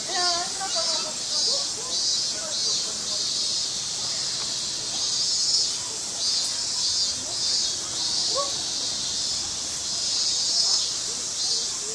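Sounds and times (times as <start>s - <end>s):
insects buzzing: 0.0s - 11.9s.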